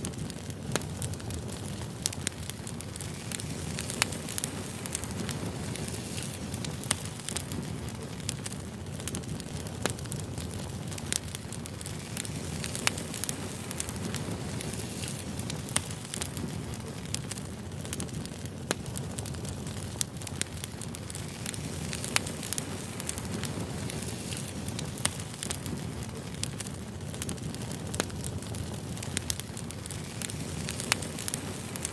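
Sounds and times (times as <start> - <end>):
firewood crackling and popping: 0.0 - 31.9
flames rushing: 0.0 - 31.9.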